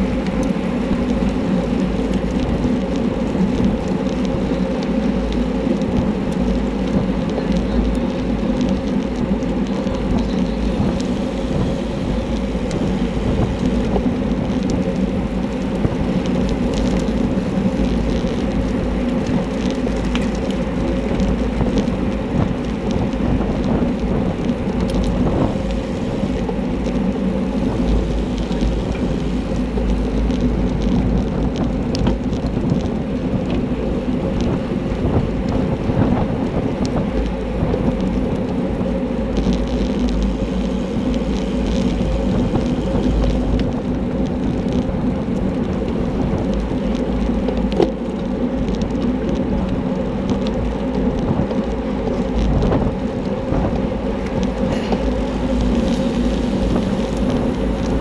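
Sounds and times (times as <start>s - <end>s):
bicycle tyre and road noise: 0.0s - 58.0s
wind buffeting microphone: 0.0s - 58.0s.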